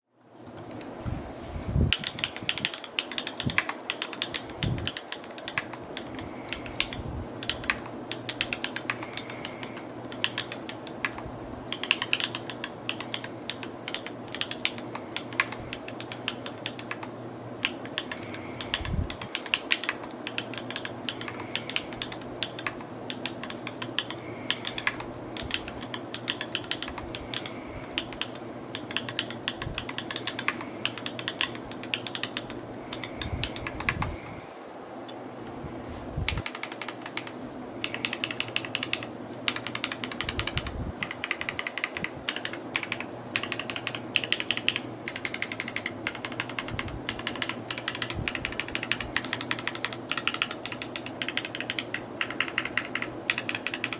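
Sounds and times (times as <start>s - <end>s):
steady low hum: 0.0s - 53.9s
fast typing on mechanical keyboard: 1.9s - 34.1s, 36.3s - 53.9s.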